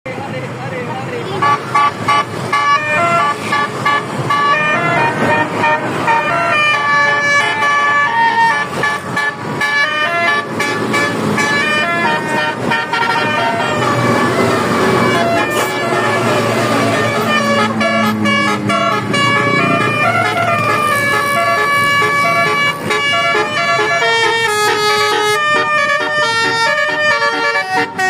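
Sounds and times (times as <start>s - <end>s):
bus horn melody: 1.4s - 28.0s.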